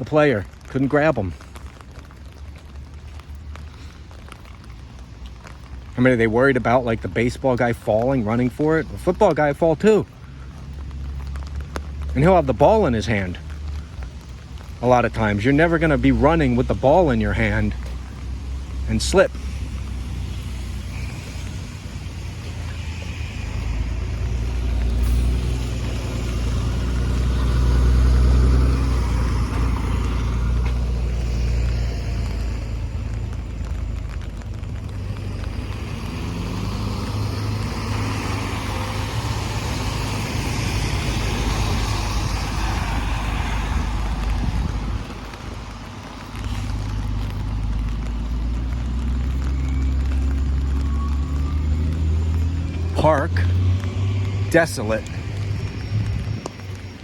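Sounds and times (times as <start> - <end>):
car tyres hissing on wet road: 0.0 - 57.0
steady low rumble: 10.0 - 57.0.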